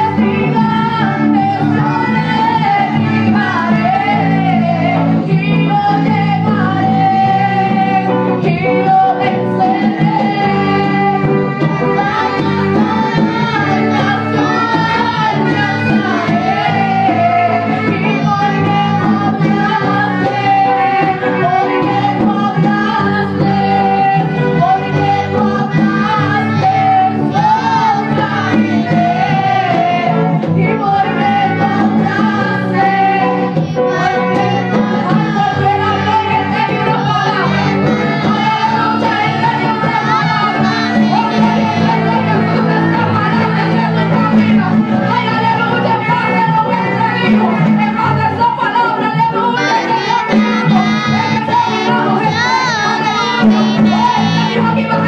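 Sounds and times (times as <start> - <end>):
musical accompaniment: 0.0 - 55.0
woman singing into microphone: 0.0 - 55.0.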